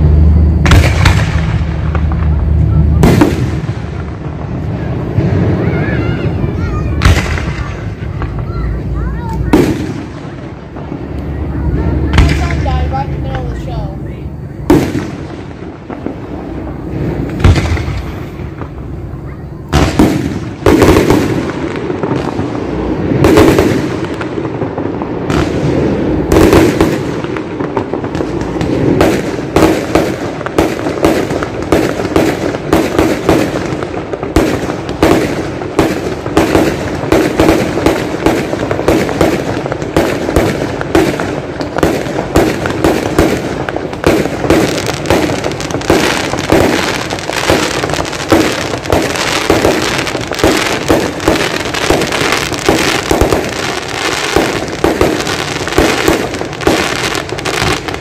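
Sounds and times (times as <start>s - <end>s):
fireworks exploding: 0.0s - 58.0s.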